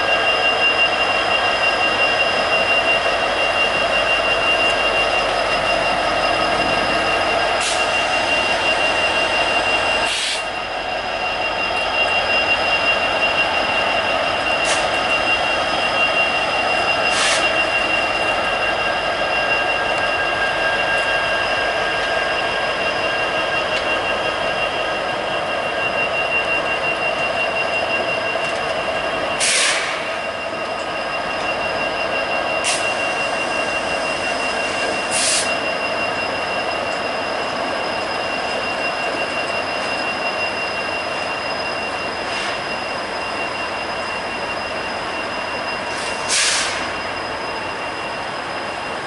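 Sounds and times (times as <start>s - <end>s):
train rolling noise: 0.0s - 49.0s
train wheels squealing: 0.0s - 49.0s.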